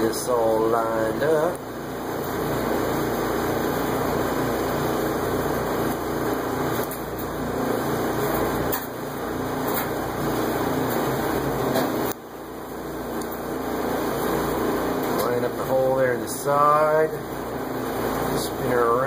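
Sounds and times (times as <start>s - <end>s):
steady machine drone: 0.0s - 19.0s.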